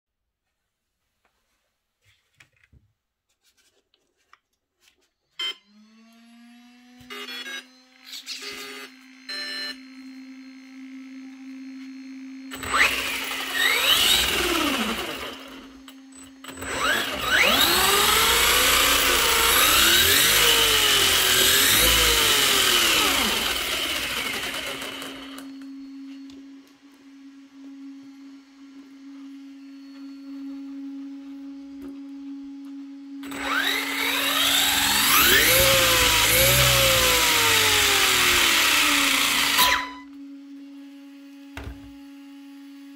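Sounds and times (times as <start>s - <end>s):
rc truck motor whine: 5.4s - 30.8s, 32.7s - 42.9s.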